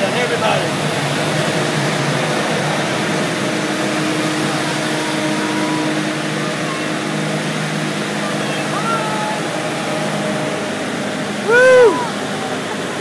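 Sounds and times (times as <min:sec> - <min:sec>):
car wash machinery roar: 0:00.0 - 0:13.0
low motor hum: 0:00.0 - 0:13.0.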